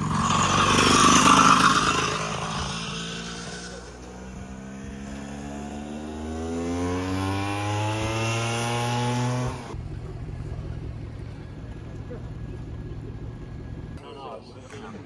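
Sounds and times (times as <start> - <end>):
scooter engine accelerating: 0.0 - 13.9.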